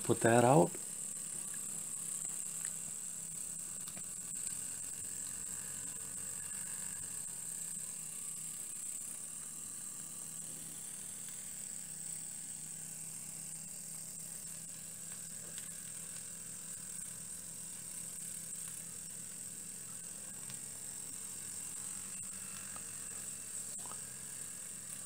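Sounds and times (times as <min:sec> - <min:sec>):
steam engines running: 0:00.0 - 0:25.0.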